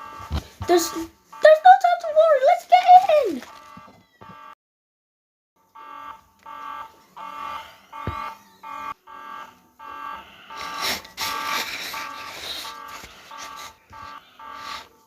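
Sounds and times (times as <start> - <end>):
fire alarm beeping: 0.0 - 4.6, 5.6 - 15.0.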